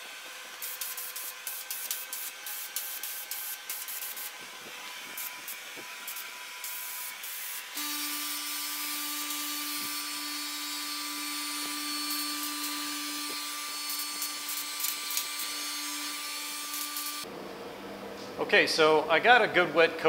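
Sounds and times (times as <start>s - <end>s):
spray gun hissing: 0.6s - 17.2s.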